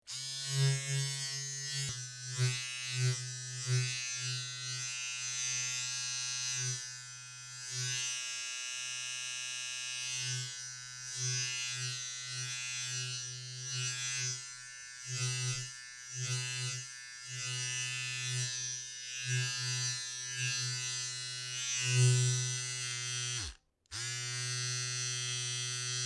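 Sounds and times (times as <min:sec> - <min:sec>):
electric hair trimmer buzzing: 0:00.1 - 0:26.0.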